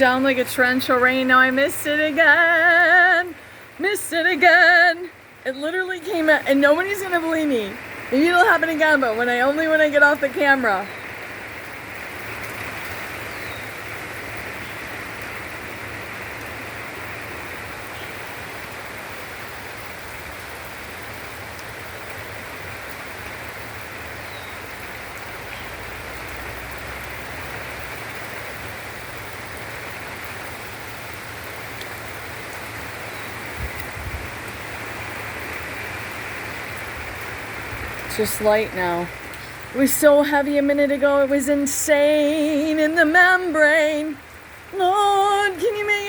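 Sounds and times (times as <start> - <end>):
rain falling steadily: 0.0 - 46.0.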